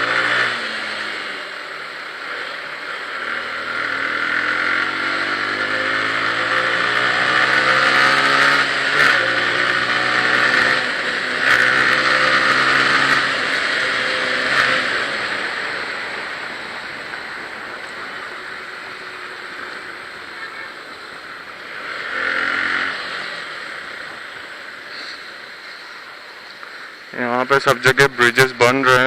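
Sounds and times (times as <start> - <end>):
motorcycle engine accelerating: 0.0 - 26.1.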